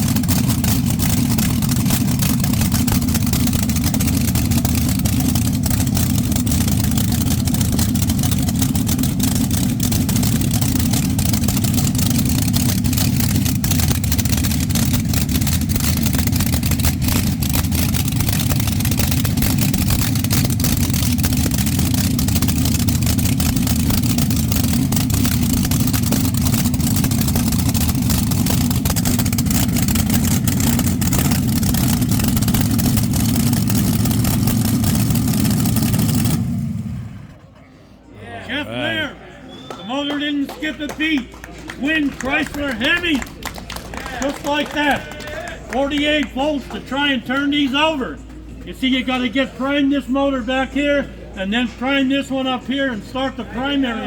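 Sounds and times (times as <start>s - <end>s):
engines idling: 0.0s - 54.0s.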